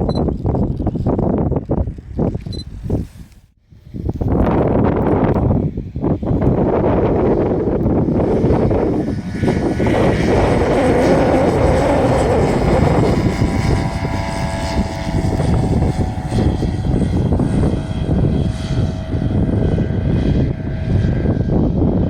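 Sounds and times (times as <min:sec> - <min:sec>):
propeller aircraft droning: 0:00.0 - 0:22.0.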